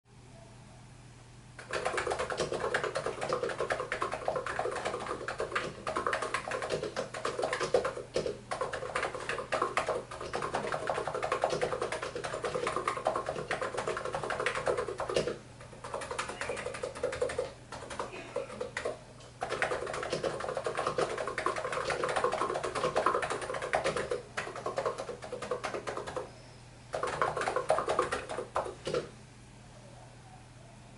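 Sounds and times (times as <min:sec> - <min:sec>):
fast keyboard typing: 0:01.6 - 0:26.3, 0:26.9 - 0:29.1.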